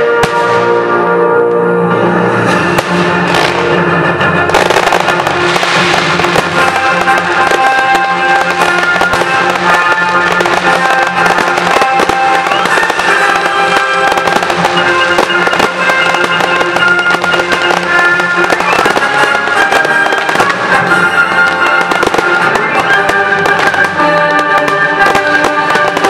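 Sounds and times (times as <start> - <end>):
fireworks popping and crackling: 0.0 - 0.9, 2.3 - 26.0
loud orchestral film music: 0.0 - 26.0.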